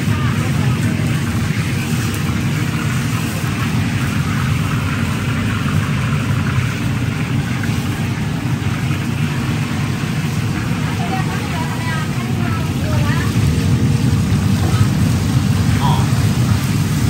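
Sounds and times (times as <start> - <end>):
stove burner rushing: 0.0 - 17.0.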